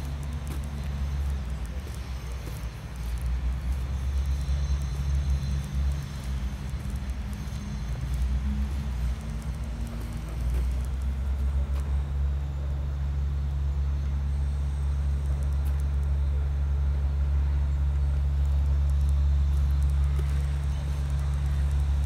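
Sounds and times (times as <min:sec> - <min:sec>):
vehicle engine drone: 0:00.0 - 0:22.0.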